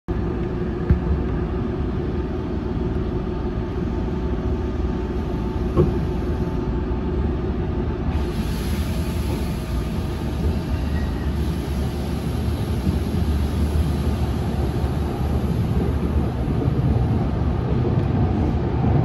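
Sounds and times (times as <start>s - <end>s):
train running low rumble: 0.1s - 19.0s.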